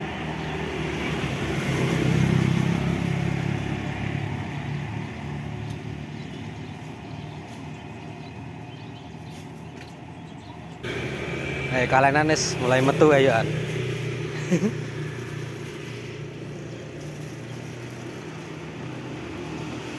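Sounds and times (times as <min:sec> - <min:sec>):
vehicle engine passing by: 0:00.0 - 0:08.6, 0:10.8 - 0:19.9.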